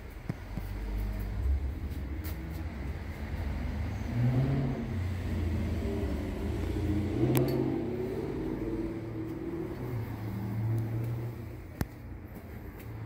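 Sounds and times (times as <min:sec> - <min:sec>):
large vehicle engine rumbling: 0:00.0 - 0:13.0.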